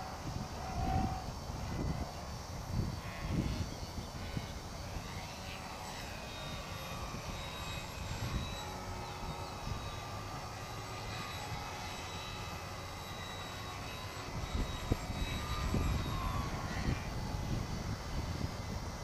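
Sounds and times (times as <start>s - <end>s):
model airplane motor whining: 0.0s - 19.0s.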